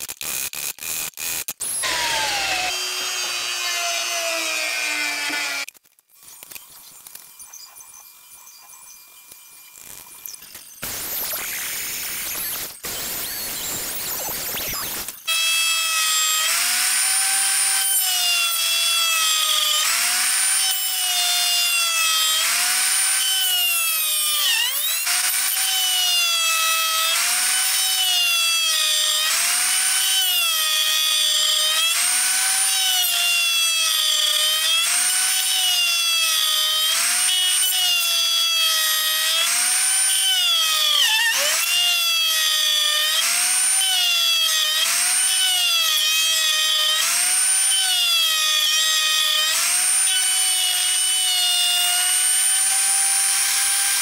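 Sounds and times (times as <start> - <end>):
electric router cutting wood: 0.3 - 5.7, 14.5 - 54.0.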